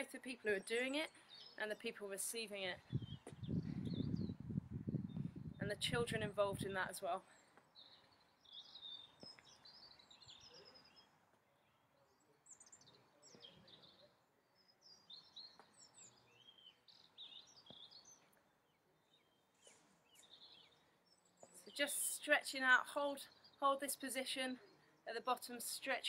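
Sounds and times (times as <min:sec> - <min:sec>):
birds chirping and twittering: 0:00.0 - 0:26.0.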